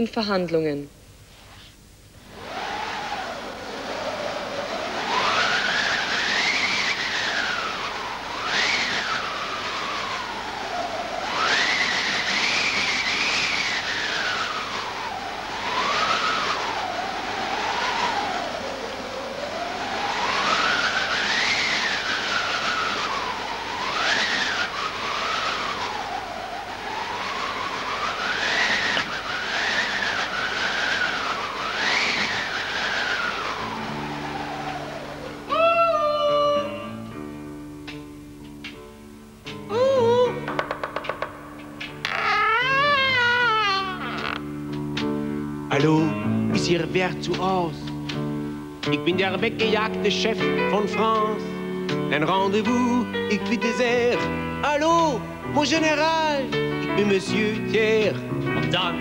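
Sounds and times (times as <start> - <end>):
steady hiss: 0.0 - 59.0
howling wind whistle: 2.1 - 38.3, 39.2 - 59.0.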